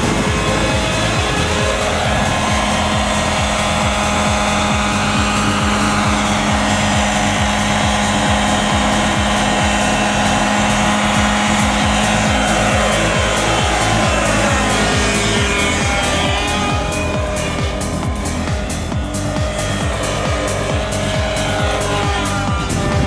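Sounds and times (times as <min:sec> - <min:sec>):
model helicopter hovering: 0:00.0 - 0:23.0.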